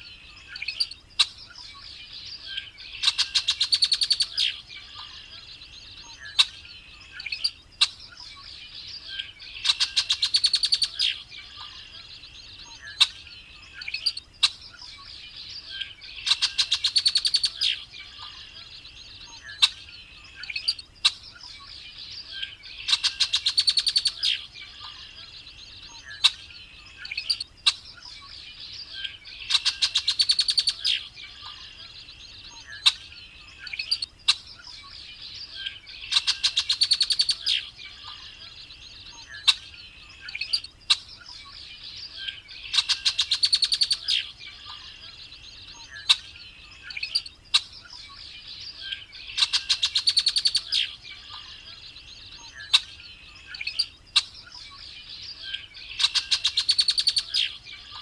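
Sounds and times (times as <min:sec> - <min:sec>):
bird singing buzzy trills: 0:00.0 - 0:58.0.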